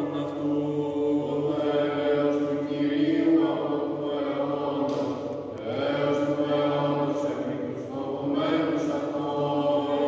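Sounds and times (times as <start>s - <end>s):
held vocal drone: 0.0s - 10.0s
voices chanting melody: 0.0s - 10.0s.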